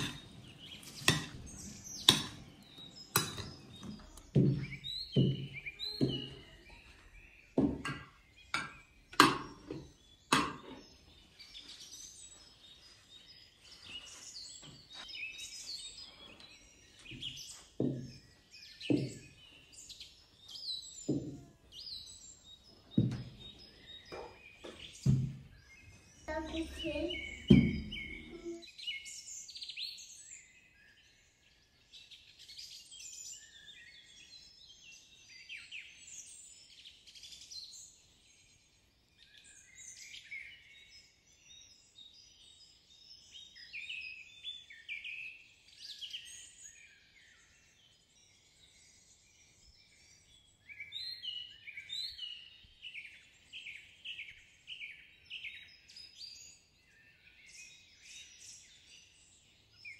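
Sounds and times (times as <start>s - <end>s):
birds chirping and singing: 0.0s - 59.9s.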